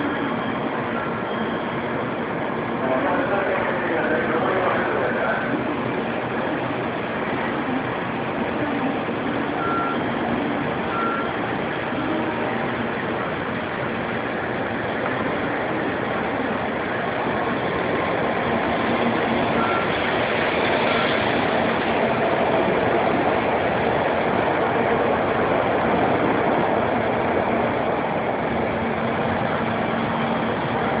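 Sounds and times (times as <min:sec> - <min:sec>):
train rushing past: 0:00.0 - 0:31.0.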